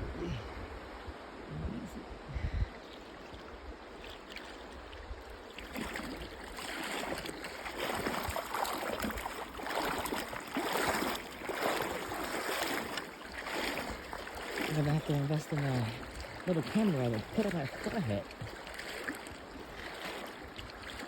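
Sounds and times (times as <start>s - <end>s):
feet splashing in water: 2.8s - 21.0s
river water rushing: 2.8s - 21.0s.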